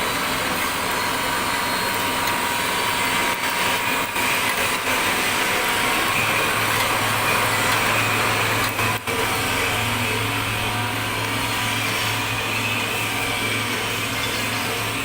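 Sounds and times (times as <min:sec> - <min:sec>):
pellet mill running: 0:00.0 - 0:15.0
steady machine whine: 0:00.0 - 0:15.0.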